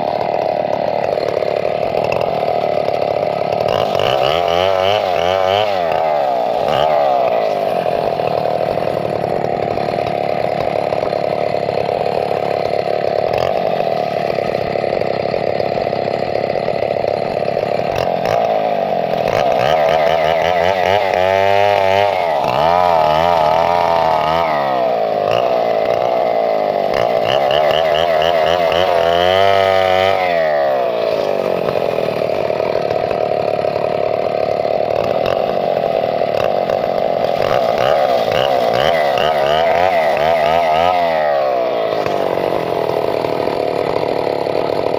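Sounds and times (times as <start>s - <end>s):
chainsaw engine running: 0.0s - 44.9s.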